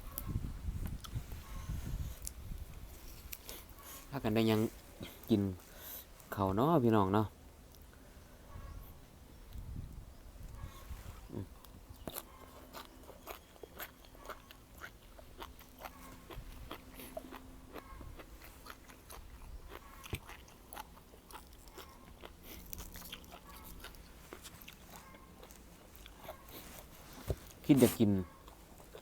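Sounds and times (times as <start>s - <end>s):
chewing and crunching: 0.0s - 6.4s, 10.4s - 29.0s.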